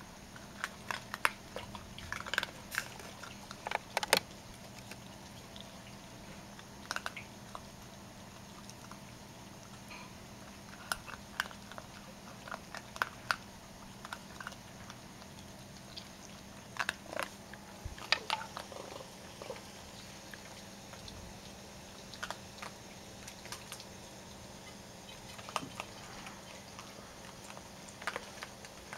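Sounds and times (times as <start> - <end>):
raccoons chewing dry food: 0.0 - 28.9.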